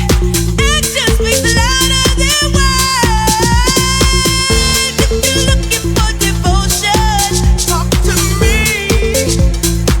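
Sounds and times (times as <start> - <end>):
electronic dance music beat: 0.0 - 10.0.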